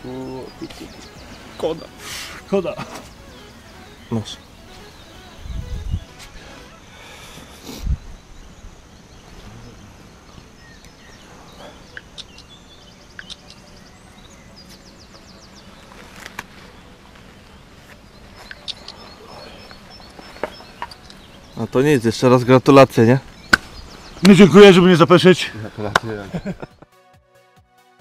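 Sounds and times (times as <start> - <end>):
bird trill: 0.0 - 9.3, 10.1 - 17.0, 18.1 - 26.7
birds chirping: 0.0 - 26.8
faint outdoor hush: 0.0 - 26.8.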